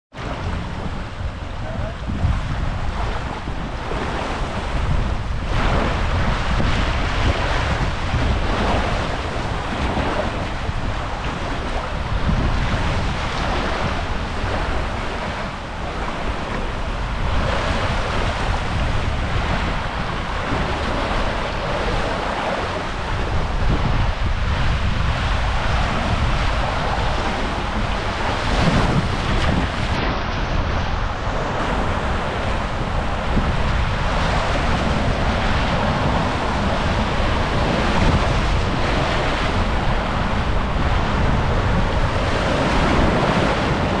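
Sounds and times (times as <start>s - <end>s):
wind buffeting microphone: 0.1s - 44.0s
water rushing down a waterslide: 0.2s - 44.0s.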